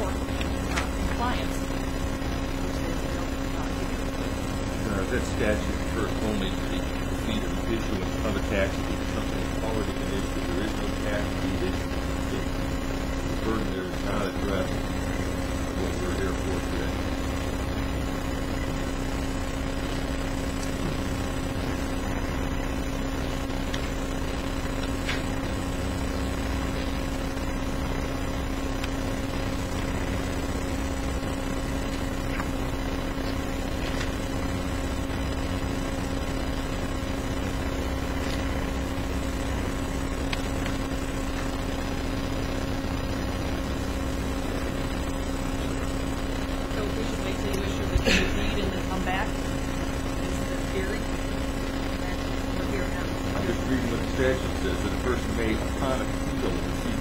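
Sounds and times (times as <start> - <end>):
steady low drone and hiss: 0.0 - 57.0.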